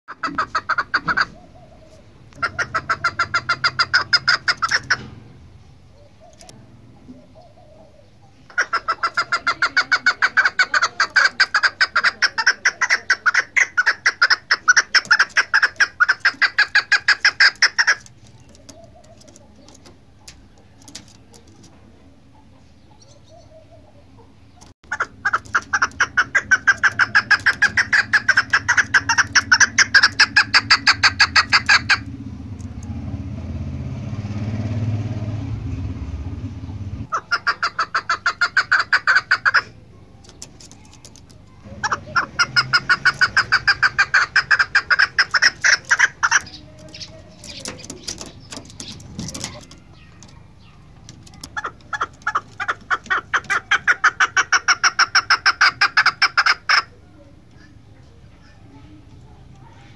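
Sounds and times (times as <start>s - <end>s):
partridge calling: 0.1s - 21.7s, 22.3s - 33.2s, 36.6s - 58.7s.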